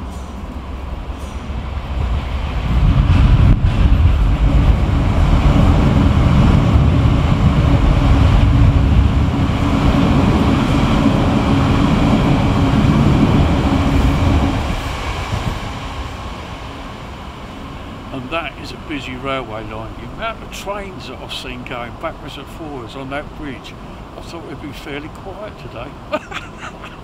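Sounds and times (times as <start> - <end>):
train rumbling over a steel bridge: 0.0 - 27.0.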